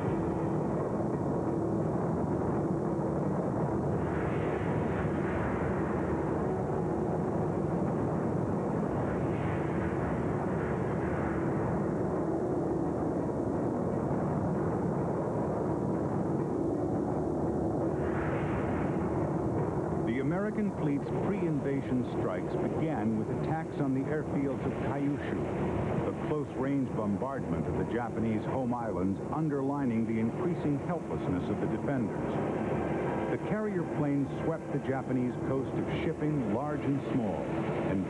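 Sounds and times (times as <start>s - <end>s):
propeller aircraft engines droning: 0.0s - 38.0s.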